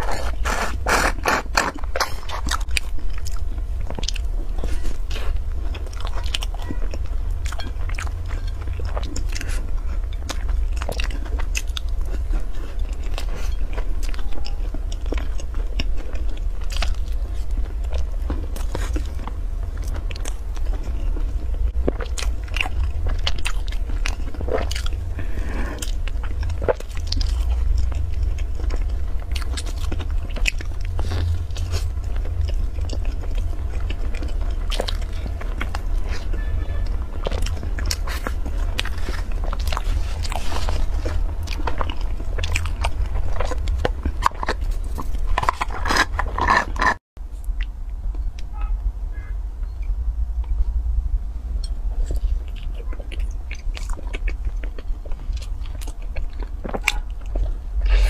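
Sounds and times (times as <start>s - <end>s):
close-miked chewing with crunches: 0.0s - 50.8s, 51.4s - 58.0s
steady low hum: 0.0s - 58.0s.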